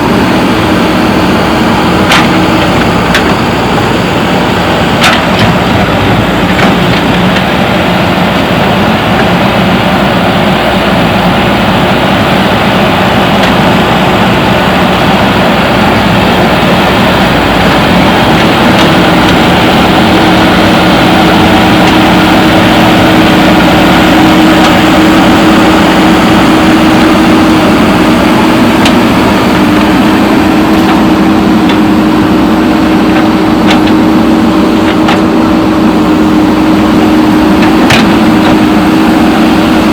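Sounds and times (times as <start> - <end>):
diesel engine running: 0.0 - 39.9
higher steady hum: 0.0 - 39.9.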